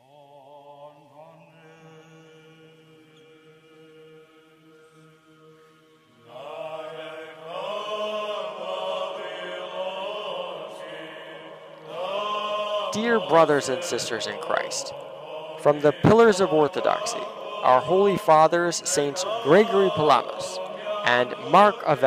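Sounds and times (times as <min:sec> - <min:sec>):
chant melody over drone: 0:00.0 - 0:22.0.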